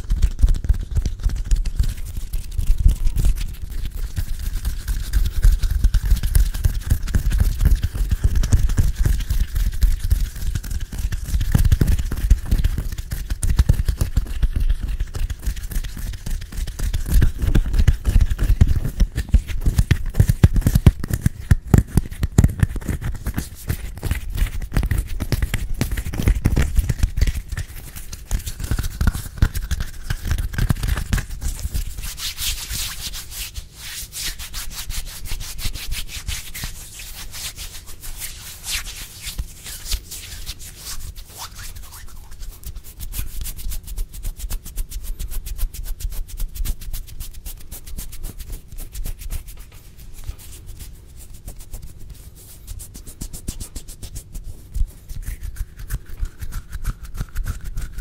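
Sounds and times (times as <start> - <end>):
hands rubbing close to microphone: 0.0 - 58.0.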